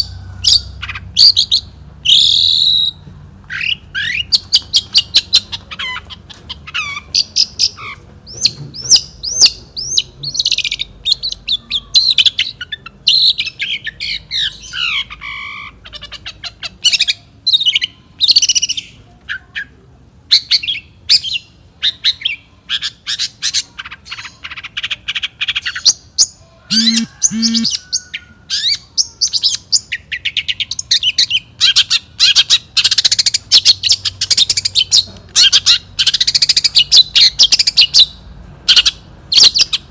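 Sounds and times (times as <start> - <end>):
bird singing chirps and squawks: 0.0 - 19.7, 20.3 - 39.9.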